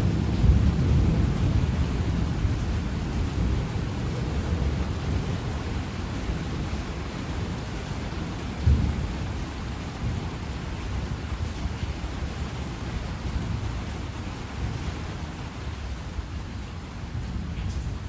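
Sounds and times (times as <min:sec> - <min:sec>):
thunder rumbling: 0:00.0 - 0:15.2
steady rain: 0:00.0 - 0:18.0.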